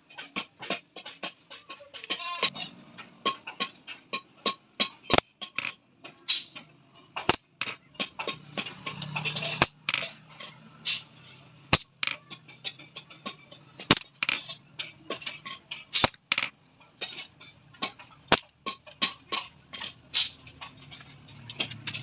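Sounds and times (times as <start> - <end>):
small hammer tapping metal: 0.0 - 11.0, 11.7 - 22.0.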